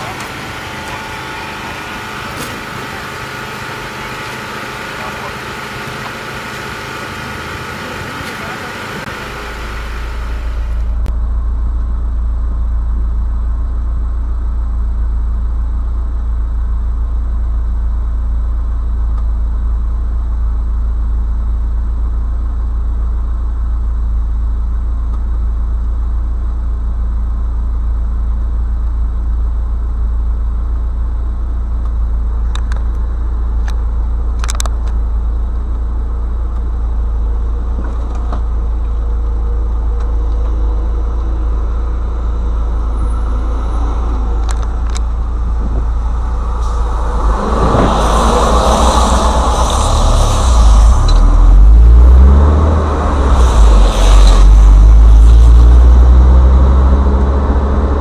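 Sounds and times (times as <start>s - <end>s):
car engine rumble inside cabin: 0.0s - 58.0s.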